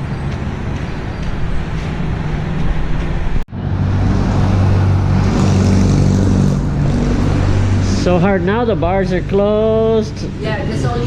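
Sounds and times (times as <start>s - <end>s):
road noise: 0.0s - 11.0s
vehicle engine humming: 0.0s - 11.0s.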